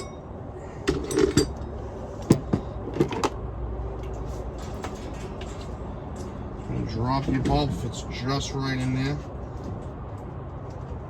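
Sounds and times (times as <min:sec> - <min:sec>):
low steady hum: 0:00.0 - 0:09.9.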